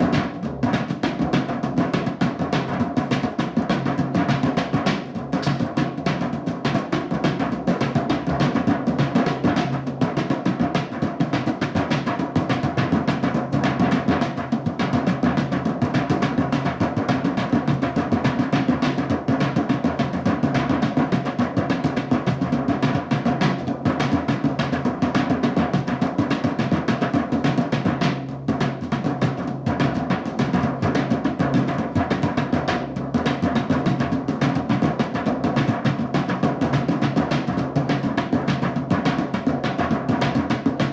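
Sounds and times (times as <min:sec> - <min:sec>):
drumming: 0:00.0 - 0:40.9.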